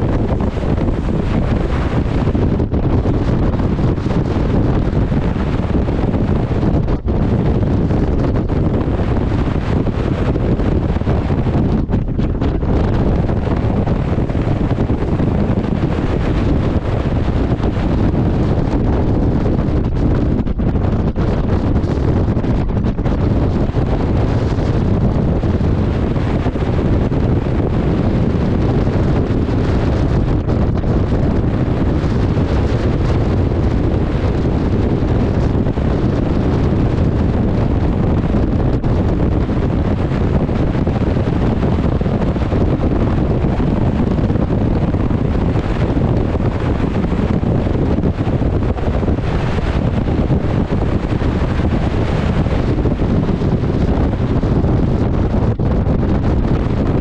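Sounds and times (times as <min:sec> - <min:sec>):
choppy sea rushing: 0:00.0 - 0:57.0
wind buffeting microphone: 0:00.0 - 0:57.0.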